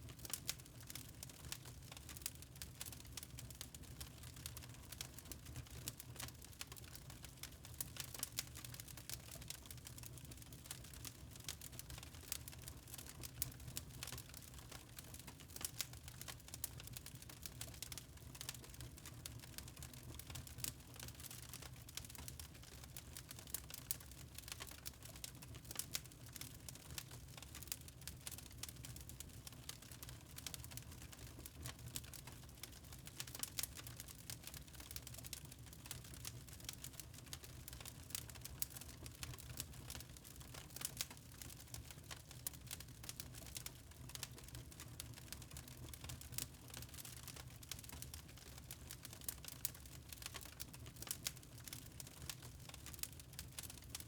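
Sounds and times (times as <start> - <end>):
fire crackling: 0.1 - 54.0.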